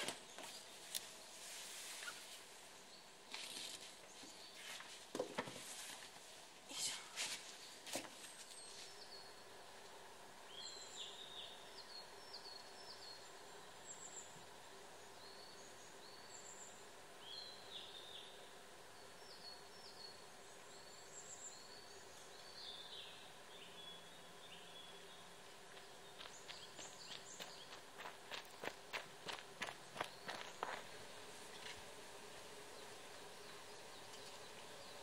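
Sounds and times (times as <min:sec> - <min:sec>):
small birds chirping: 0:00.0 - 0:05.1, 0:05.7 - 0:35.0.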